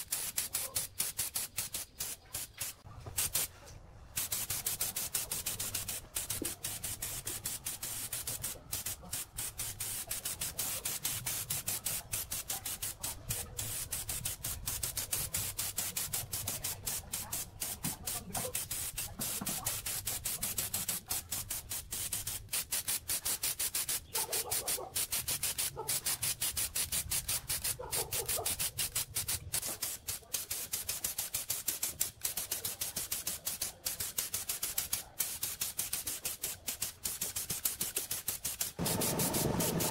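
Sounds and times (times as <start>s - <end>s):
paint spray gun hissing: 0.0s - 3.5s, 4.1s - 39.9s.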